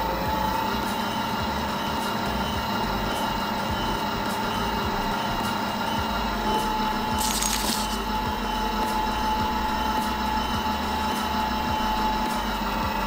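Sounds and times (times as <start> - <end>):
machine motor whine and hum: 0.0 - 13.0.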